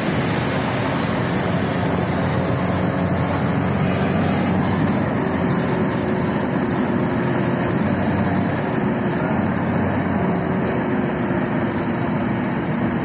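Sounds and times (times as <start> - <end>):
car driving at speed: 0.0 - 13.0.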